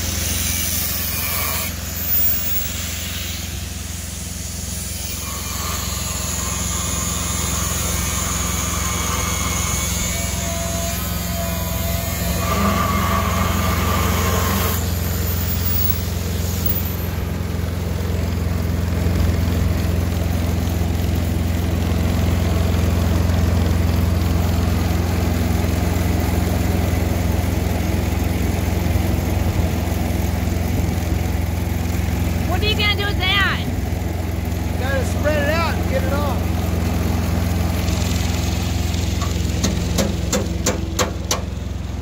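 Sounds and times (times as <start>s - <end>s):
large engine idling: 1.7s - 42.0s.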